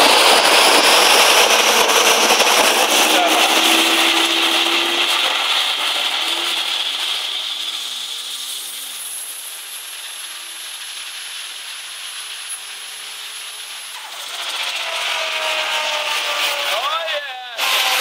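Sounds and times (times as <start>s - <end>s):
thin high whine: 0.0s - 17.7s
turbocharged engine running: 0.0s - 18.0s.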